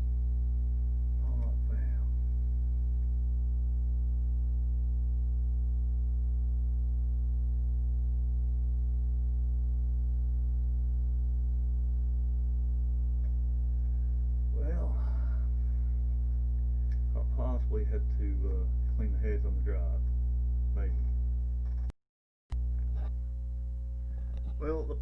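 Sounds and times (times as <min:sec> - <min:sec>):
electrical mains hum: 0:00.0 - 0:21.9, 0:22.5 - 0:25.0.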